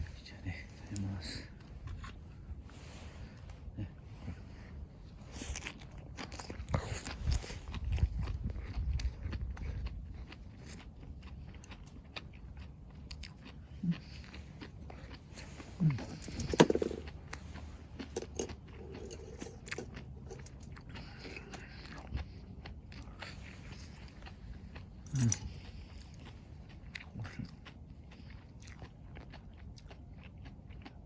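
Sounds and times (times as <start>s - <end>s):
person chewing crunchy pepper: 0.6s - 31.0s.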